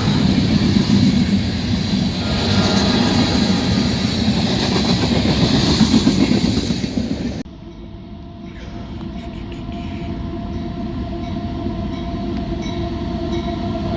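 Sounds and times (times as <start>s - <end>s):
freight train rumbling past: 0.0s - 13.9s.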